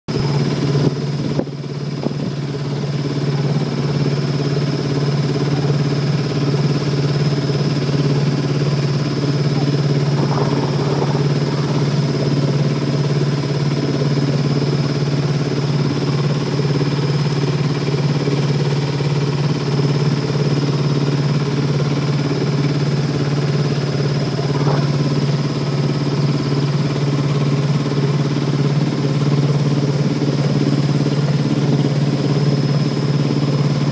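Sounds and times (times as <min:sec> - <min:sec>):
boat engine droning: 0:00.1 - 0:33.9
high engine whine: 0:00.1 - 0:33.9.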